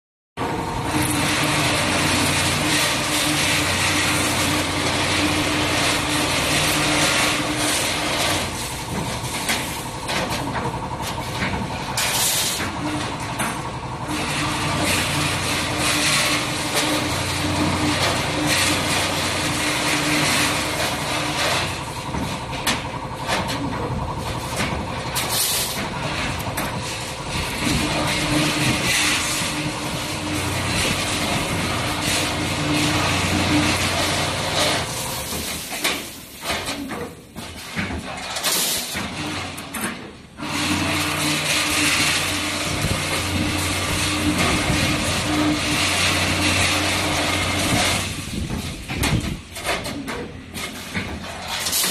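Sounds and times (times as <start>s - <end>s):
bending machine motor hum: 0.4s - 51.9s.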